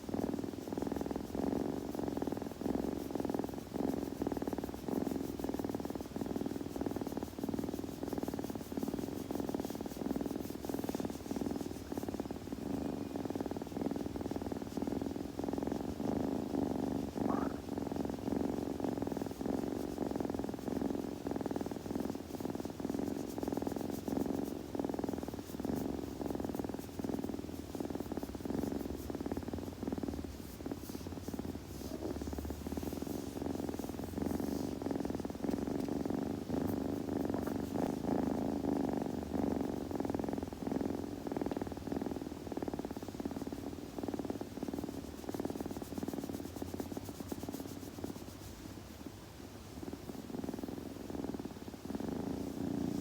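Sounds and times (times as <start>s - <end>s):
kitten purring: 0.0s - 53.0s.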